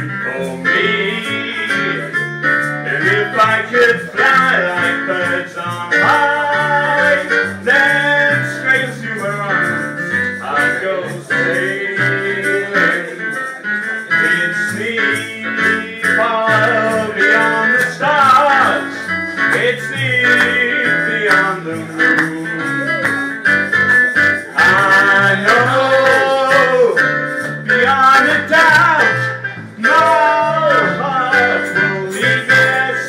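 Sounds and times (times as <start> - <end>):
man singing into microphone: 0.0 - 23.3, 24.3 - 33.0
electronic keyboard: 0.0 - 33.0.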